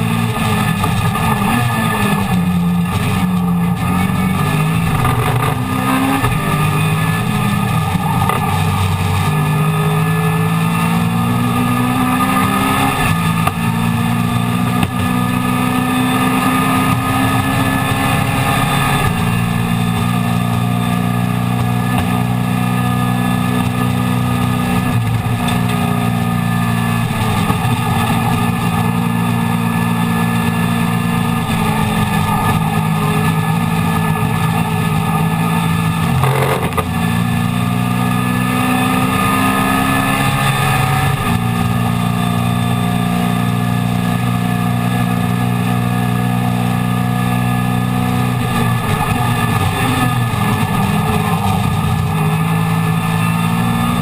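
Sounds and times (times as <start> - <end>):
race car engine revving: 0.0 - 54.0
road and wind noise: 0.0 - 54.0.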